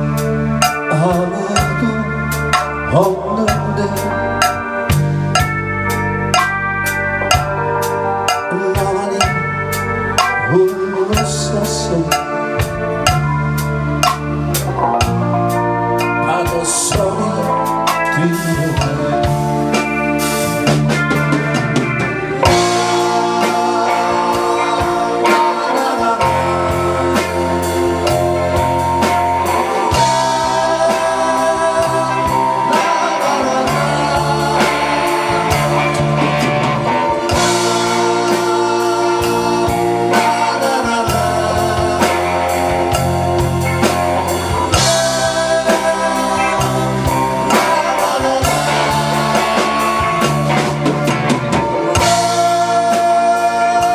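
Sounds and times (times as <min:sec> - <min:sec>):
stepping bass line: 0:00.0 - 0:25.6, 0:26.2 - 0:53.9
drum kit beat: 0:00.0 - 0:53.9
sustained guitar melody: 0:00.0 - 0:53.9.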